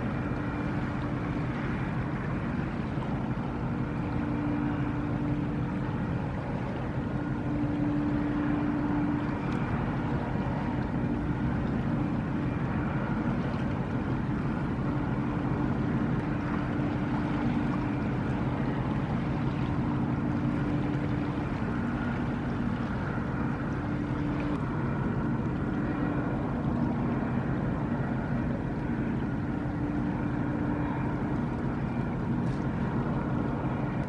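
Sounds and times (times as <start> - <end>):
ship machinery hum: 0.0 - 34.0.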